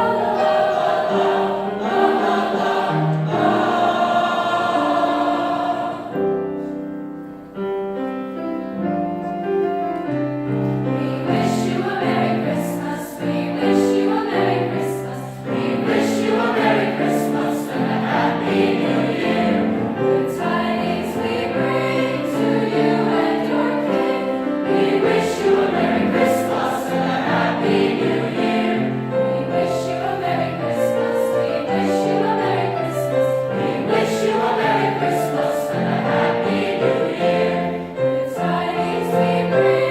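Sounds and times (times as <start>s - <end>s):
choir singing in parts: 0.0s - 6.8s, 10.7s - 39.9s.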